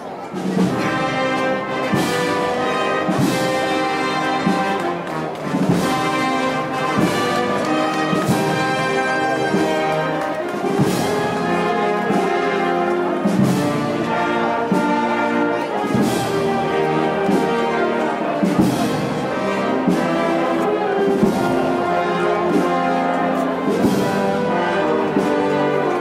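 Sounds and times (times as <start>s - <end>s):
brass music: 0.0s - 26.0s.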